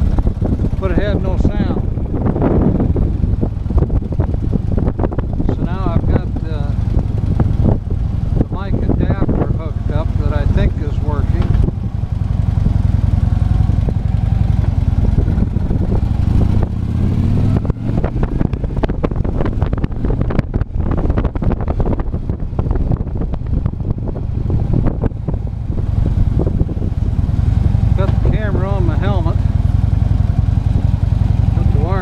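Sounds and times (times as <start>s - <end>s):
motorcycle engine rumble: 0.0s - 32.0s
wind buffeting microphone: 0.0s - 32.0s.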